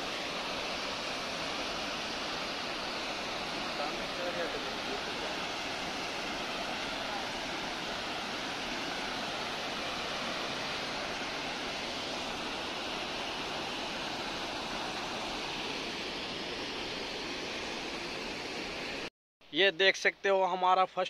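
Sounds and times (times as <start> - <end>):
water rushing down spillway: 0.0 - 19.1.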